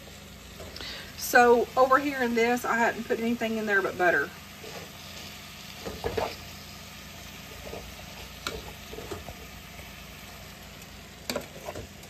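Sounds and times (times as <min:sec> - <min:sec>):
steak and onions sizzling: 0:00.0 - 0:12.0.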